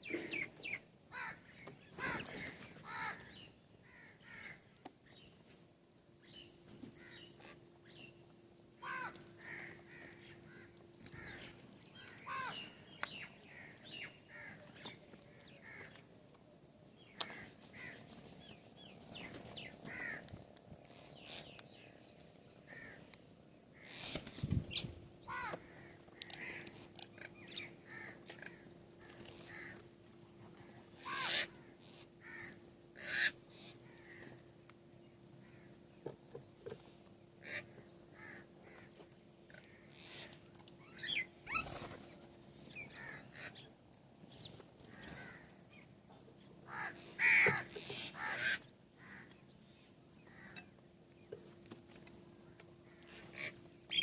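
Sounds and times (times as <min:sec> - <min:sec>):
birds chirping and calling: 0:00.0 - 0:05.4, 0:08.8 - 0:16.0, 0:17.0 - 0:23.2, 0:23.8 - 0:34.4, 0:36.7 - 0:45.9, 0:46.7 - 0:52.1, 0:52.8 - 0:54.0
faint steady hum: 0:00.0 - 0:54.0.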